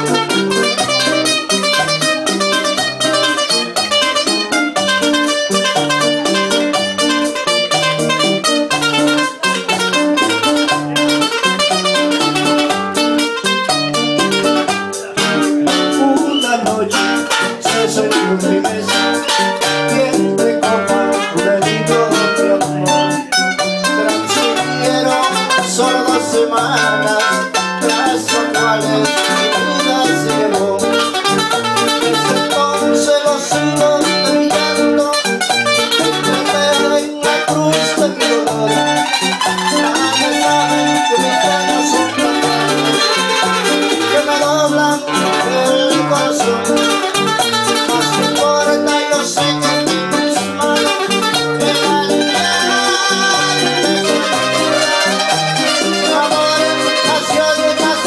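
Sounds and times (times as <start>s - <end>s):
acoustic guitars playing: 0.0s - 58.0s.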